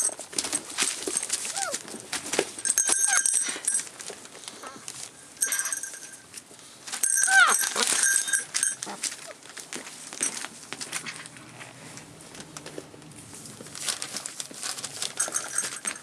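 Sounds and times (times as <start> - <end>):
newspaper crinkling and rustling: 0.0 - 5.2, 6.8 - 16.0.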